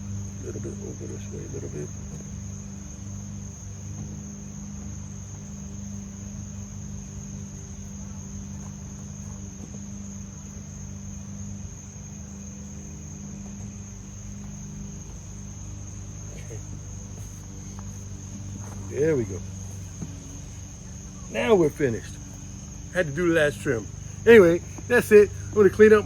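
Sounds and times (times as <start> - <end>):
crickets chirring: 0.0 - 26.0
low hum: 0.0 - 26.0.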